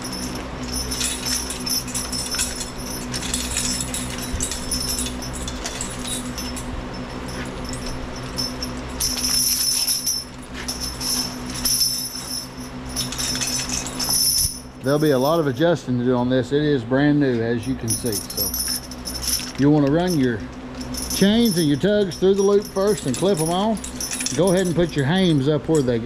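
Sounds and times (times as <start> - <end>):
harness chains and buckles jingling: 0.0 - 26.0
steady low hum: 0.0 - 26.0.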